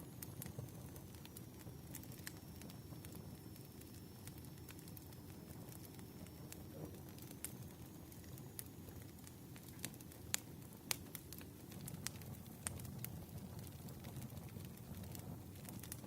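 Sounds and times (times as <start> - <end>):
low rumble of flames: 0.0 - 16.0
burning wood popping and snapping: 0.2 - 16.0.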